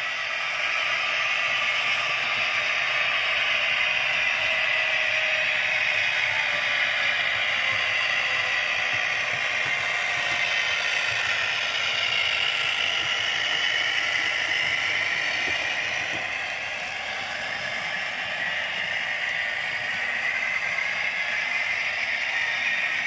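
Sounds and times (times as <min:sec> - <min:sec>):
model train whirring and clattering: 0:00.0 - 0:23.0.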